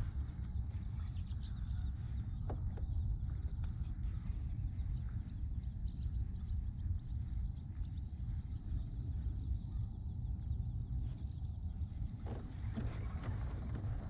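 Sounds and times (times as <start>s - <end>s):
faint high bird chirps: 0.0s - 14.0s
steady low rumble: 0.0s - 14.0s.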